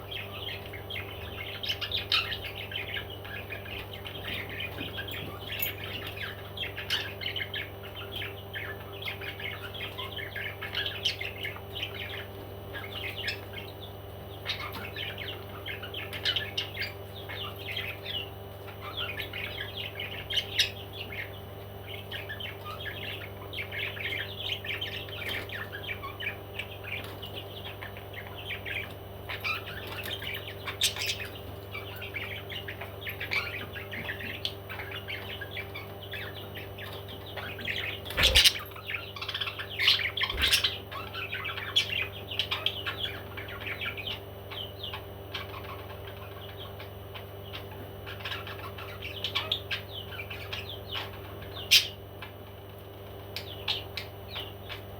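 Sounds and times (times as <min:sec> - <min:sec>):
parrots chirping and chattering: 0:00.0 - 0:54.9
steady low hum: 0:00.0 - 0:54.9.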